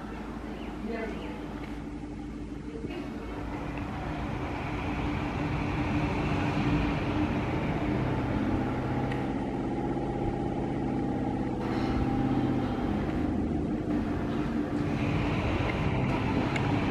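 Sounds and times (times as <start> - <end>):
low engine hum: 0.0 - 16.9.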